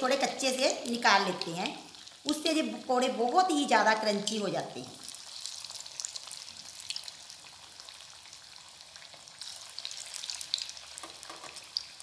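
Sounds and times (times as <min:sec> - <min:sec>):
pakoras sizzling in hot oil: 0:00.0 - 0:12.0.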